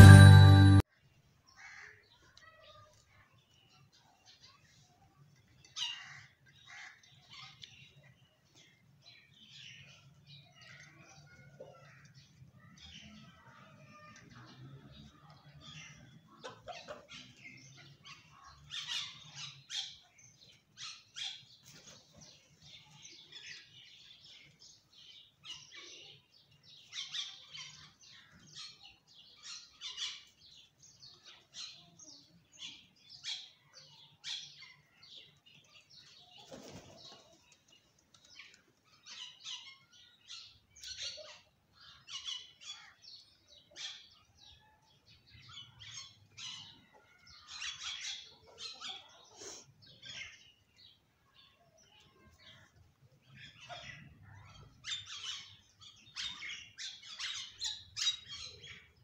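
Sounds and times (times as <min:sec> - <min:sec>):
small birds chirping: 0:01.1 - 0:59.0.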